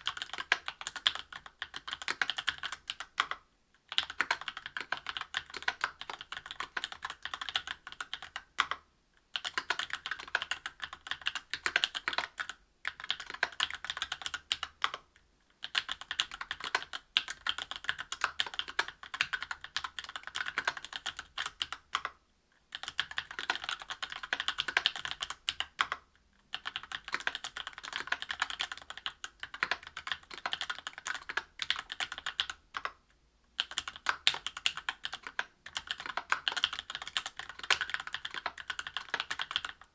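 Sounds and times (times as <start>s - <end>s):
mechanical keyboard typing: 0.0s - 33.0s, 33.6s - 39.9s.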